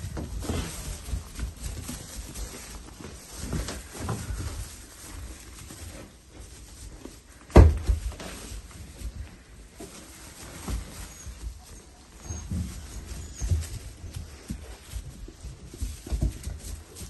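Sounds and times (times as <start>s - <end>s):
puppies scuffling: 0.0s - 17.0s.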